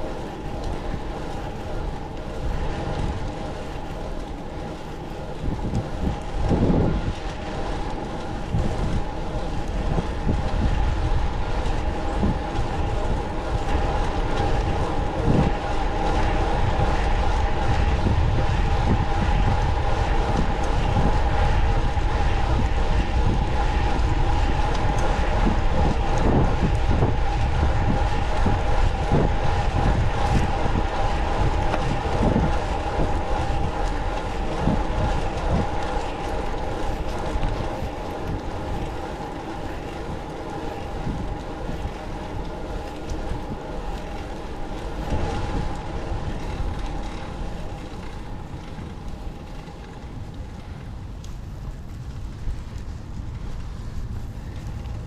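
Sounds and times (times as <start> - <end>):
heavy rumble with high whine: 0.0 - 55.0.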